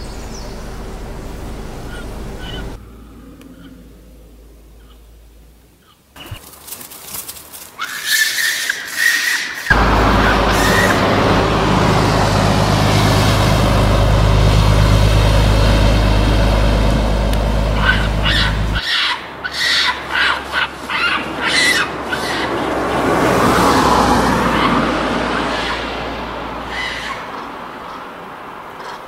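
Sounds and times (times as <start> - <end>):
car engine humming: 0.0 - 7.7, 9.4 - 19.4, 20.0 - 28.7.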